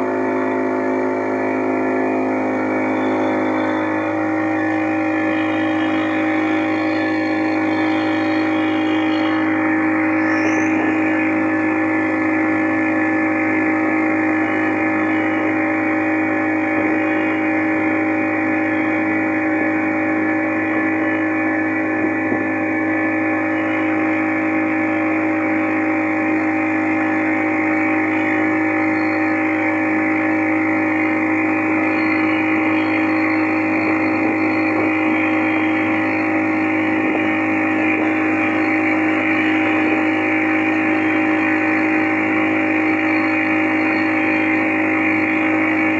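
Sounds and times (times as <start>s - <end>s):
motorboat engine droning: 0.0s - 45.9s.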